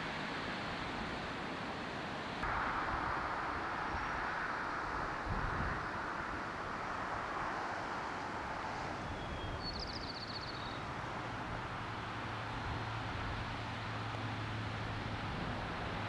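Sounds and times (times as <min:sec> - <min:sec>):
steady outdoor noise: 0:00.0 - 0:16.0.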